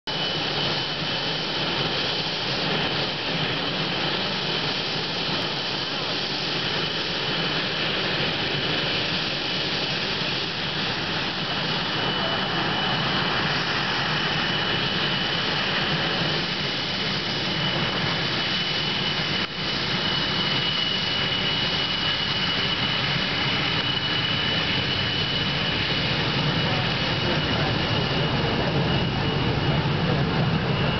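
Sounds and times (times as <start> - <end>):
high turbine whine: 0.1 - 30.9
jet engine noise: 0.1 - 30.9.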